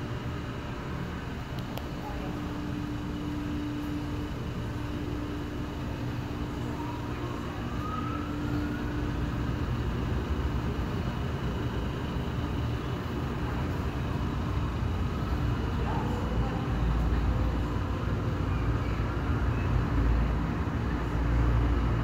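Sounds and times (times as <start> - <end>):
car wash machinery: 0.0 - 22.0.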